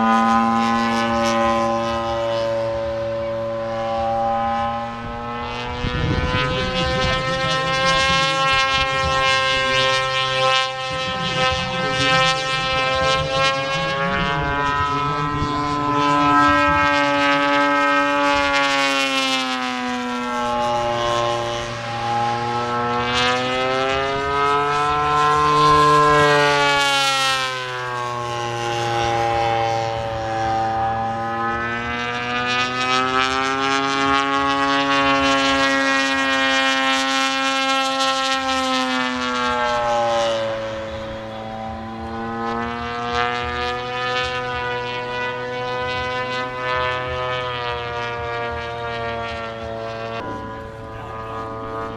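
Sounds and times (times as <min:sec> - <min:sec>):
model airplane engine buzzing: 0:00.0 - 0:51.9.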